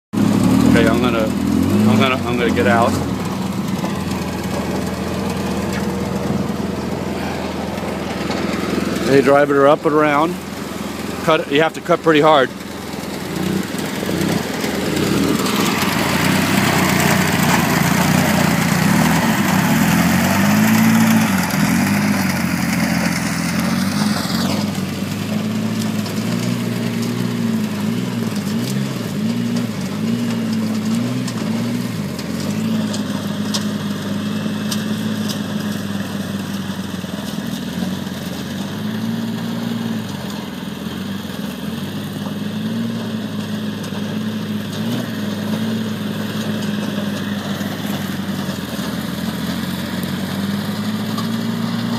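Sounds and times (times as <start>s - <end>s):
tow-behind mower running: 0.1s - 51.9s
utility vehicle engine running: 0.1s - 51.9s.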